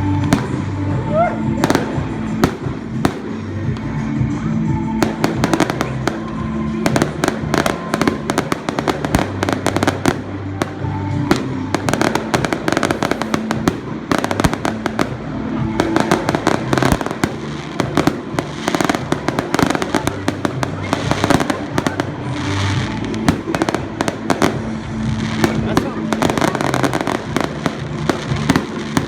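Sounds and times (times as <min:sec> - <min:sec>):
fireworks cracking and popping: 0:00.0 - 0:01.0, 0:01.6 - 0:29.0
music playing: 0:00.0 - 0:29.0.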